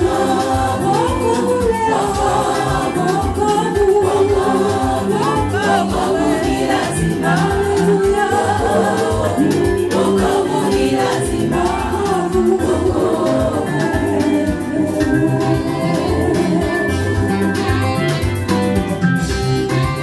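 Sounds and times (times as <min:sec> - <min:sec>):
gospel choir singing: 0:00.0 - 0:18.4
instrumental backing with bass line: 0:00.0 - 0:20.0.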